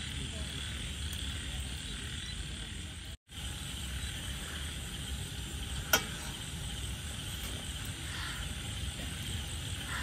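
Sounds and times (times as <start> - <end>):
broth hissing and simmering: 0.0 - 10.0.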